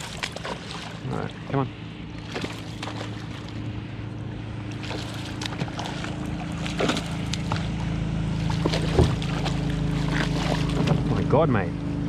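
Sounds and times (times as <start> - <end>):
fish splashing at water surface: 0.0 - 4.0, 4.6 - 11.2
steady low hum: 0.0 - 12.0.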